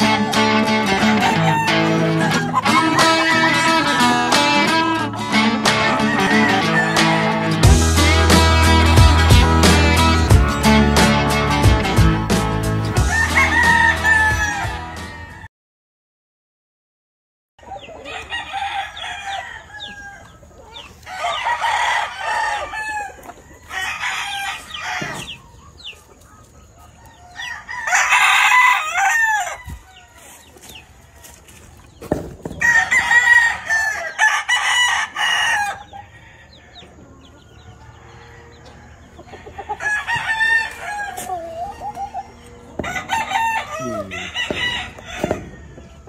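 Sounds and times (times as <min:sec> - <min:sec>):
roosters crowing: 0:00.0 - 0:15.5, 0:17.6 - 0:46.0.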